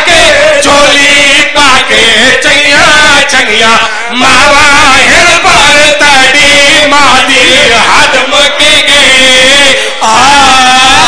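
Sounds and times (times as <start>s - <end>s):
men chanting over microphone: 0.0s - 11.0s.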